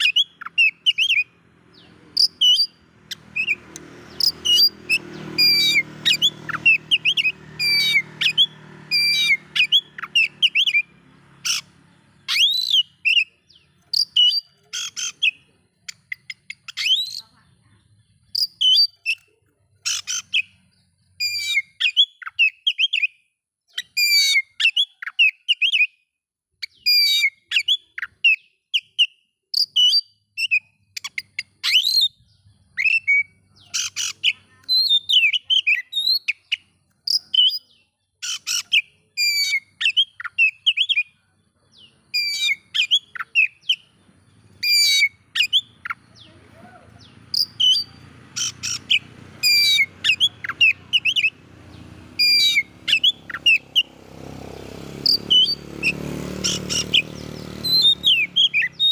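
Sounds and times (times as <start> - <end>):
bird singing whistles and chirps: 0.0 - 17.2, 18.3 - 19.3, 26.6 - 54.3, 55.0 - 58.9.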